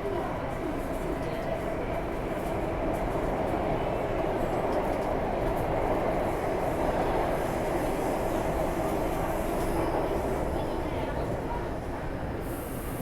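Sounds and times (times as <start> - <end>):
metro train wheels rumbling on rail: 0.0 - 13.0.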